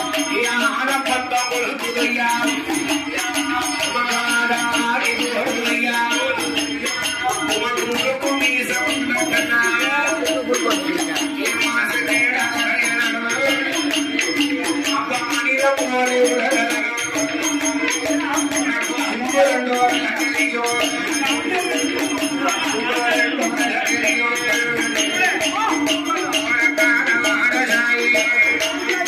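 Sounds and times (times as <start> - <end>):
jingling bells: 0.0 - 29.0
person singing: 0.0 - 29.0
rattling hand percussion: 0.0 - 29.0.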